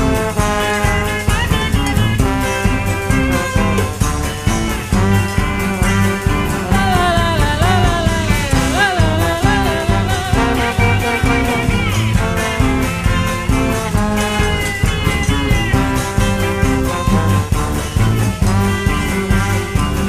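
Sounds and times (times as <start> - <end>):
band playing swing music: 0.0 - 20.0.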